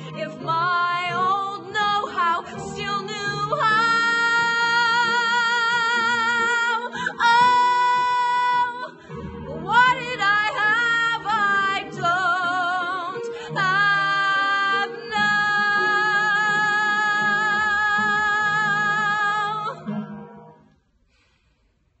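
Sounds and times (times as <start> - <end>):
woman singing a ballad: 0.0 - 19.9
soft musical accompaniment: 0.0 - 20.9.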